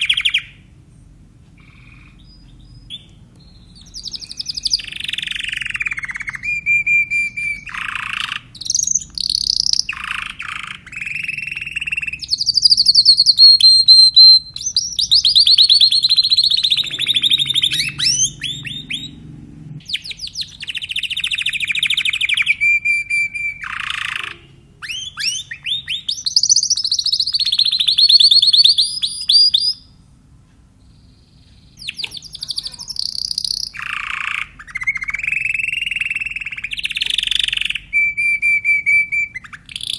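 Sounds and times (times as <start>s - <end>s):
canary singing trills: 0.0s - 30.0s, 30.7s - 39.9s.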